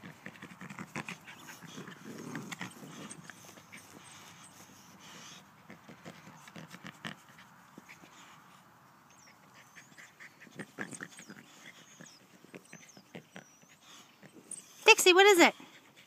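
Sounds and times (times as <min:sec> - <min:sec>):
dog sniffing: 0:00.0 - 0:16.0.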